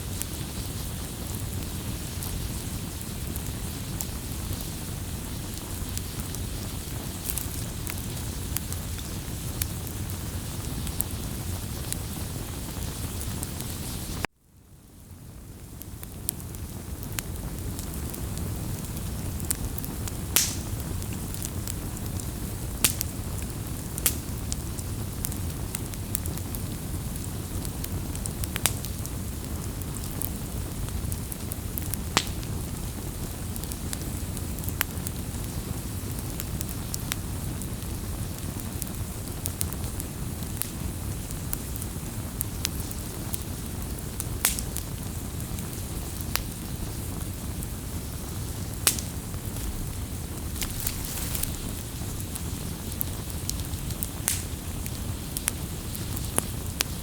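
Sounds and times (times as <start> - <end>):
campfire crackling: 0.0 - 14.3, 15.0 - 57.0.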